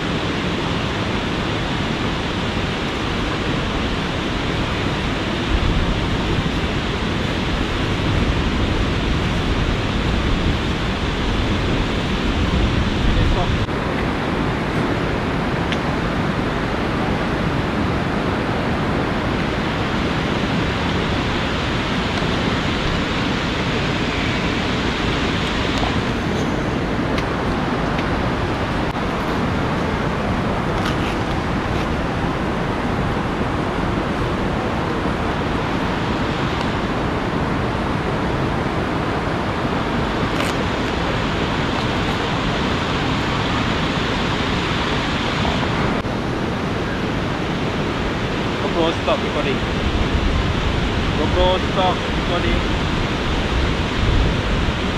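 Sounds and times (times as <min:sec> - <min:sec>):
river rushing: 0:00.0 - 0:54.9.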